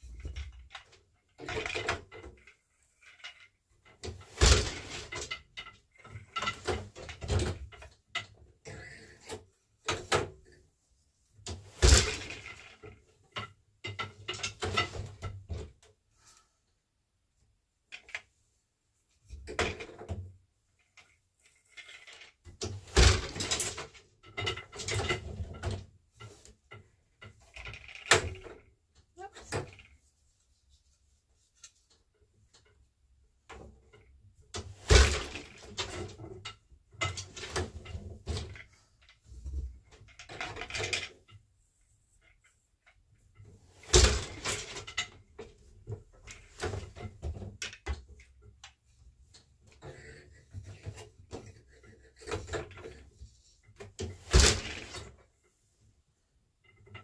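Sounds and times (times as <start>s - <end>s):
loom shuttles sliding and clattering: 0.0s - 10.6s, 11.3s - 16.4s, 17.9s - 57.0s.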